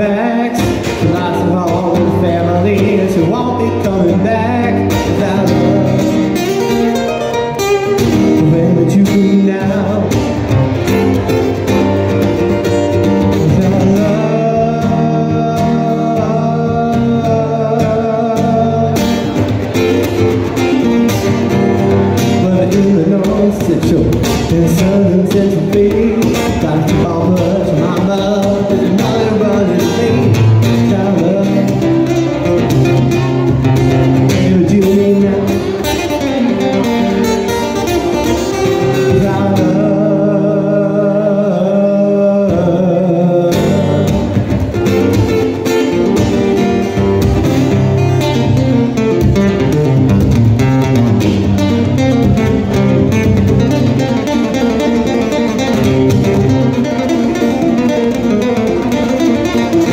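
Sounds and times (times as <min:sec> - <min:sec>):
acoustic guitar through a pa: 0:00.0 - 0:59.9.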